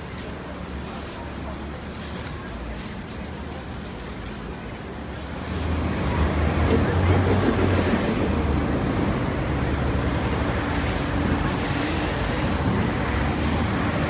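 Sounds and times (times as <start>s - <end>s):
city traffic engine rumble: 0.0s - 14.0s.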